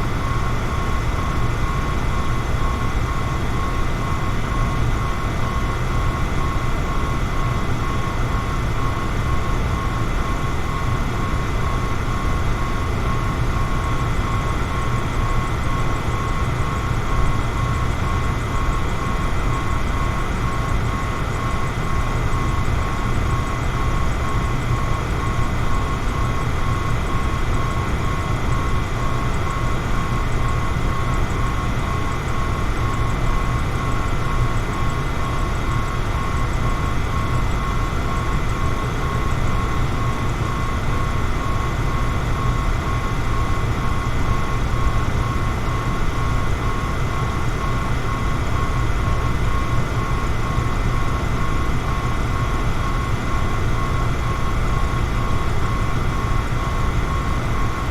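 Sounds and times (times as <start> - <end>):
electric fan running: 0.0 - 57.9.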